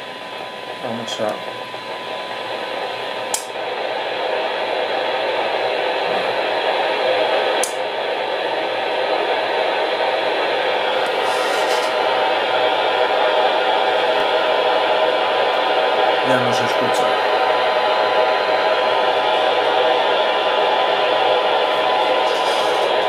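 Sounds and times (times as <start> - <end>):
receiver hiss: 0.0 - 23.0
steady test tone: 0.0 - 23.0.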